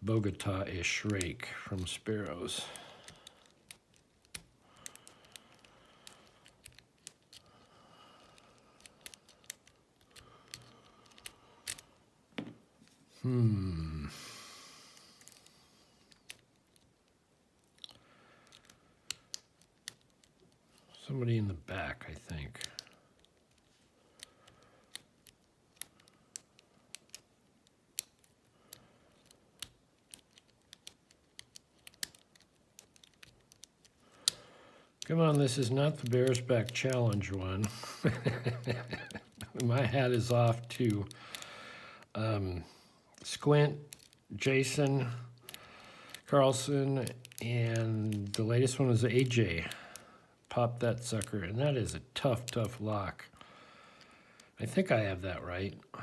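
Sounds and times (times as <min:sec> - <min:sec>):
lock pick raking padlock pins: 0:00.1 - 0:12.0, 0:14.9 - 0:42.2, 0:43.1 - 0:53.4.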